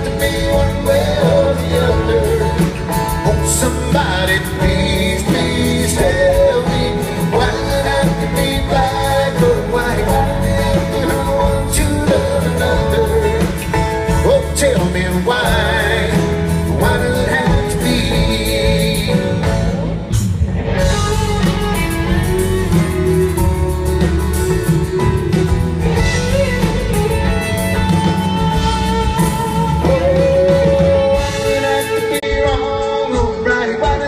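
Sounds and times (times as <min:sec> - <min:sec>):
country band playing: 0:00.0 - 0:34.0
lead vocal singing: 0:00.0 - 0:34.0.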